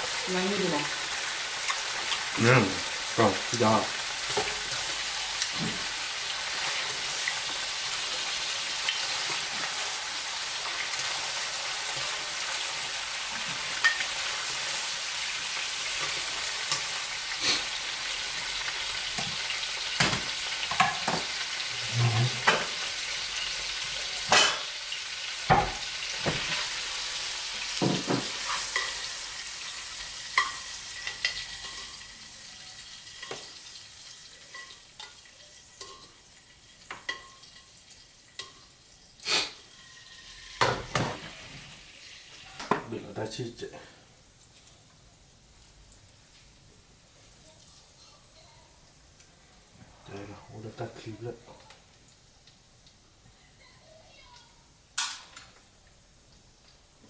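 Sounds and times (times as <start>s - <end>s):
steak sizzling in a wok: 0.0s - 57.0s.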